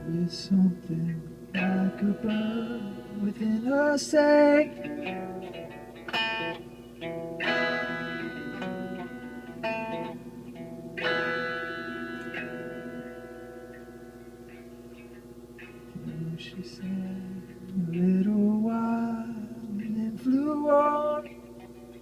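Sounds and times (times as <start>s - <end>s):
plucked guitar notes and chords: 0.0s - 22.0s.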